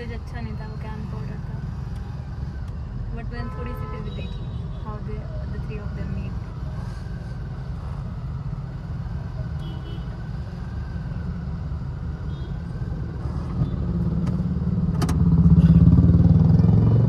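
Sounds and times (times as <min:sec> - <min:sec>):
motor vehicle engine: 0:00.0 - 0:17.0
road traffic rumble: 0:00.0 - 0:17.0.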